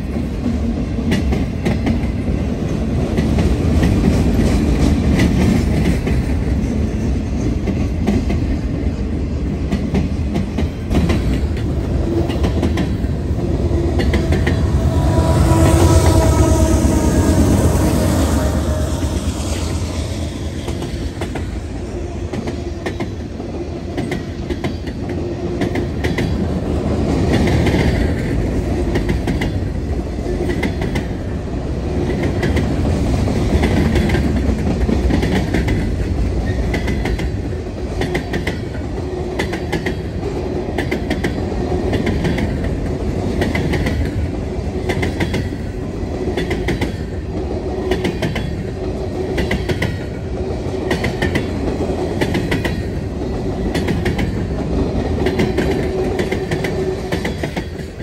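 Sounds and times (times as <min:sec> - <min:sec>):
freight train cars rumbling: 0:00.0 - 0:58.0.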